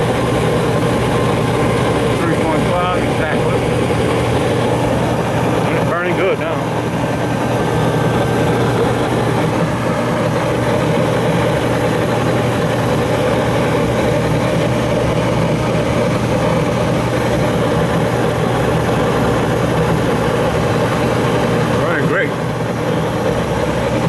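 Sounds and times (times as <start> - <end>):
gas furnace burners rushing: 0.0 - 24.0.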